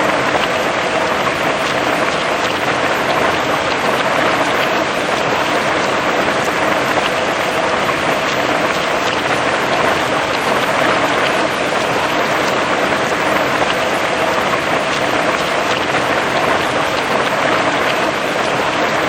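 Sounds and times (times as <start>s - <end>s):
heavy rain on grass and trees: 0.0s - 19.0s.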